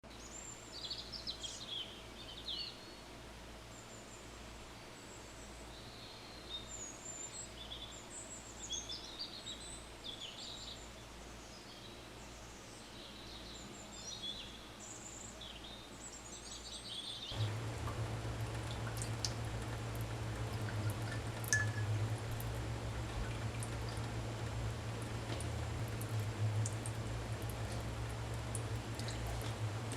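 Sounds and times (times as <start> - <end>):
steady low hum with hiss: 0.1 - 29.9
small birds chirping: 5.5 - 29.9.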